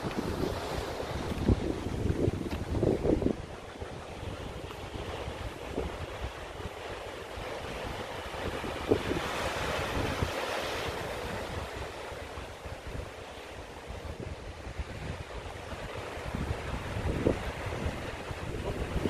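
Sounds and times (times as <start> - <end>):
sea surf breaking over boulders: 0.0 - 19.0
wind buffeting microphone: 0.0 - 19.0.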